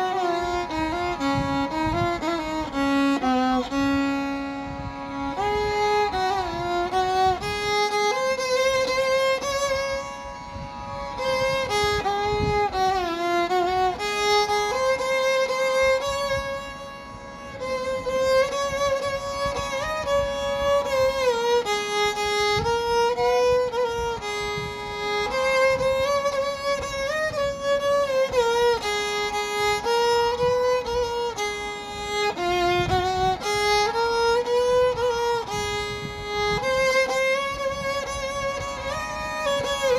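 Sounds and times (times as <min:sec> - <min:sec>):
soft accompaniment: 0:00.0 - 0:39.9
solo violin melody: 0:00.0 - 0:39.9.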